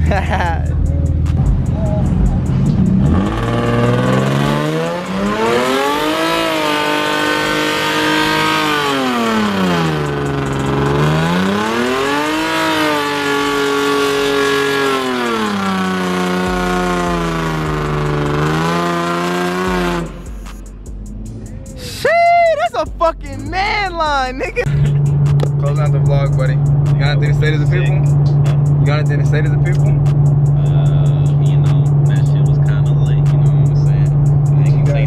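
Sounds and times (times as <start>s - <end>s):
car engine revving hard: 0.0s - 21.5s, 24.6s - 35.0s.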